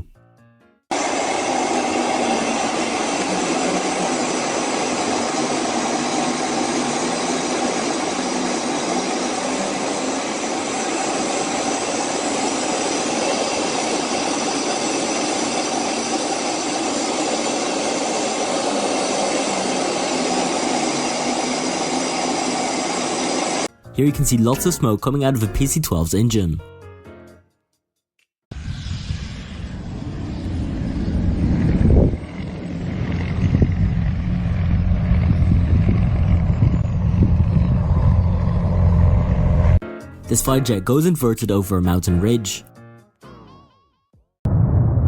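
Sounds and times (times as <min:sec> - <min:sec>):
aircraft engine drone: 0:00.9 - 0:24.5, 0:28.5 - 0:42.3.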